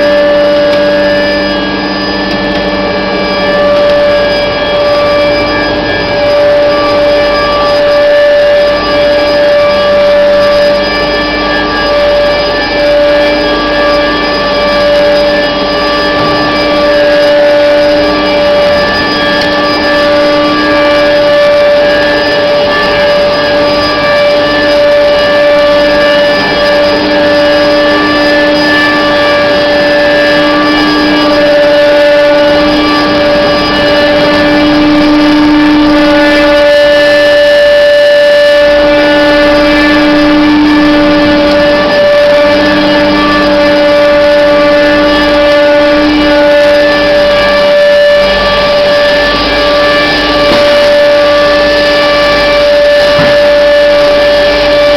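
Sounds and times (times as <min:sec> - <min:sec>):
machine humming: 0:00.0 - 0:54.9.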